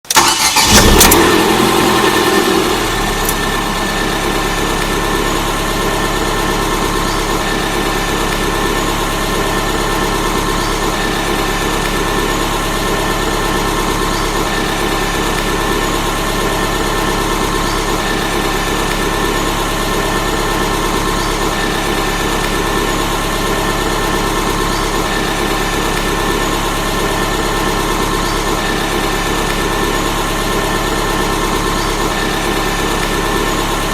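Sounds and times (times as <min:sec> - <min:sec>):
car engine starting and idling: 0:00.0 - 0:33.9.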